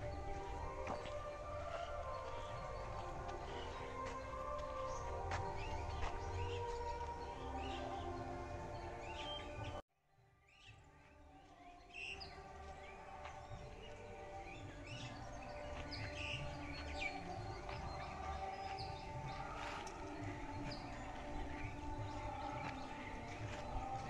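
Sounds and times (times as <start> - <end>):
birds chirping: 0.0 - 9.8, 10.5 - 24.0.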